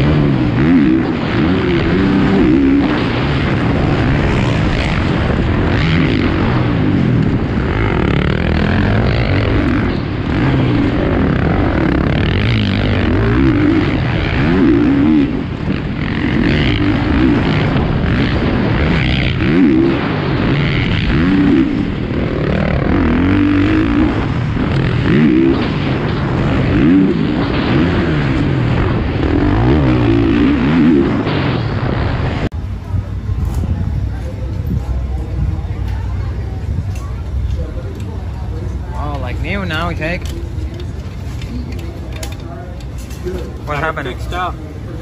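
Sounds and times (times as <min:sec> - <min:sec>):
motocross bike engine revving: 0:00.0 - 0:45.0.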